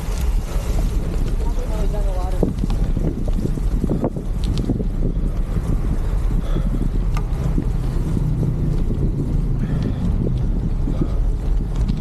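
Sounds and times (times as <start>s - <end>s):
bike tyres rolling on gravel: 0.0s - 12.0s
wind buffeting microphone: 0.0s - 12.0s.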